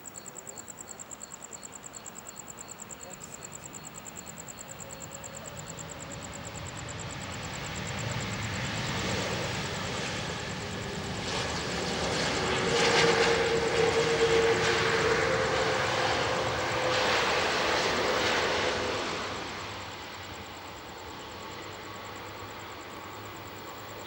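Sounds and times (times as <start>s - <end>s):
jet engines of landing airliner: 0.0s - 24.0s.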